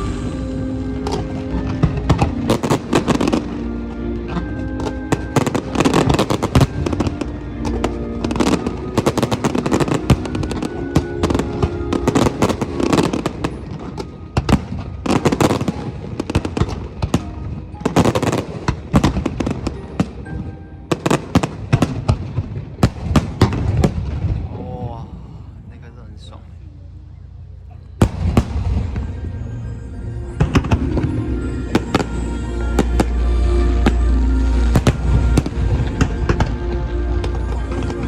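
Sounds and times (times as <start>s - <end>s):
fireworks bangs and crackles: 0.0s - 24.5s, 28.0s - 38.0s
music playing: 0.0s - 38.0s.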